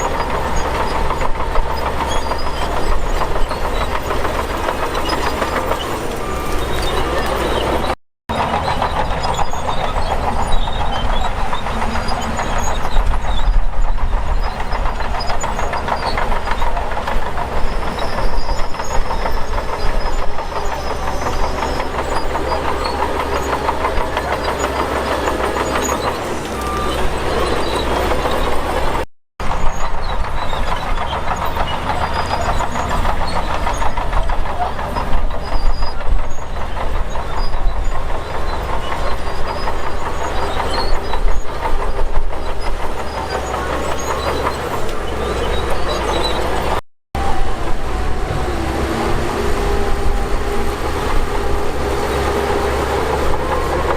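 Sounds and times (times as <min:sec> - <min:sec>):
diesel engines under load: 0:00.0 - 0:53.9
machinery rattling and clanking: 0:00.0 - 0:53.9.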